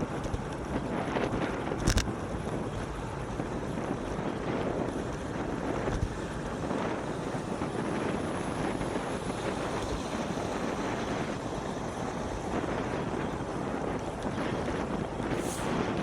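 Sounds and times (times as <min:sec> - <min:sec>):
traffic road noise: 0:00.0 - 0:16.0
wind rushing on microphone: 0:00.0 - 0:16.0.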